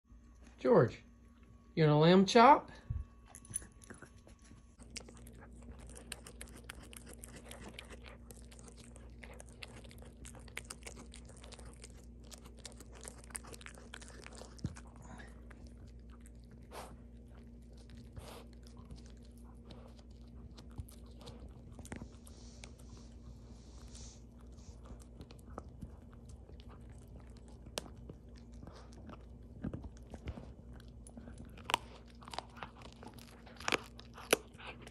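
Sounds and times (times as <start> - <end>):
dog chewing on bone: 3.2 - 34.9.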